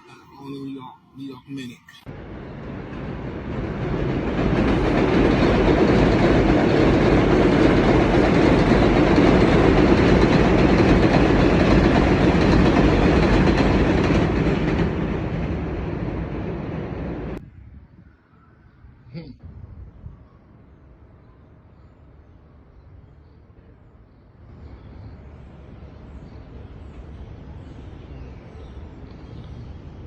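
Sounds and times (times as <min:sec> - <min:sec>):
subway train running on rails: 0:00.0 - 0:18.5, 0:19.8 - 0:30.0.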